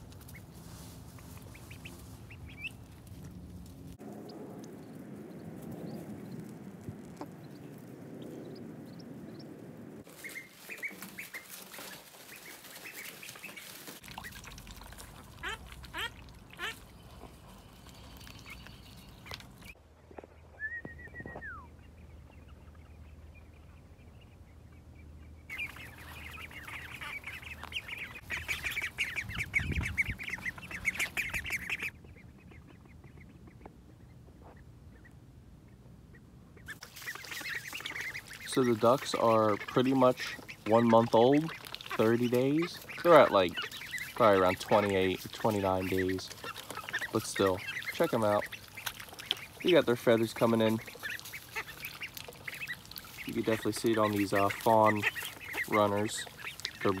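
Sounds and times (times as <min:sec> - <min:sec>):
ducks peeping and quacking: 0:00.0 - 0:57.0.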